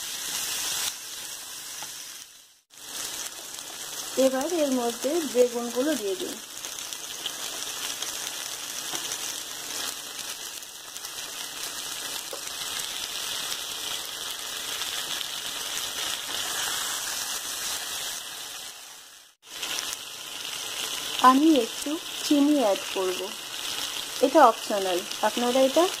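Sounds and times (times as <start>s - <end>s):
oil sizzling in a frying pan: 0.0s - 26.0s.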